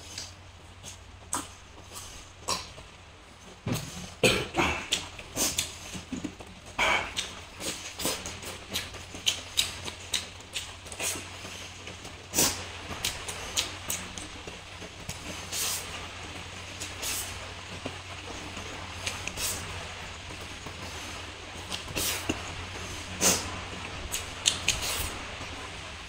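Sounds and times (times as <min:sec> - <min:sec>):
man chewing food: 0:00.0 - 0:26.0
steady low hum: 0:00.0 - 0:26.0.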